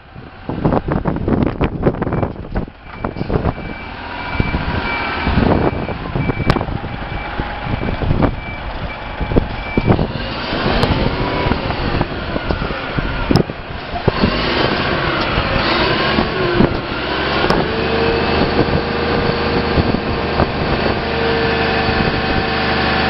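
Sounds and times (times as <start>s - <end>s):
truck engine running: 0.0s - 23.0s
wind on microphone: 0.0s - 23.0s
truck reversing alarm beeping: 2.0s - 22.6s.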